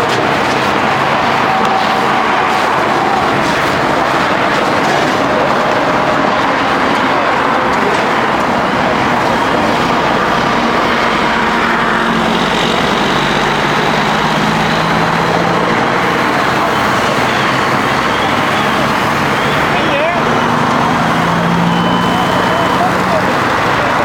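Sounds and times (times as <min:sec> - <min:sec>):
highway traffic noise: 0:00.0 - 0:24.0.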